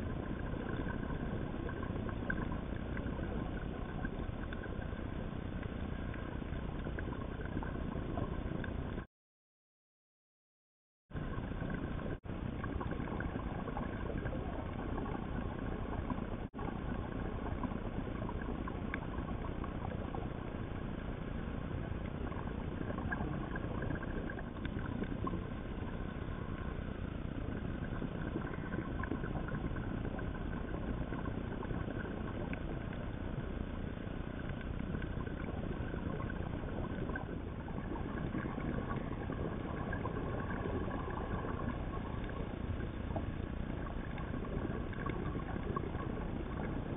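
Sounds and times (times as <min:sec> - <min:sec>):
faint steady hum: 0:00.0 - 0:09.1, 0:11.2 - 0:46.9
underwater rumble and hiss: 0:00.0 - 0:09.1, 0:11.1 - 0:46.9.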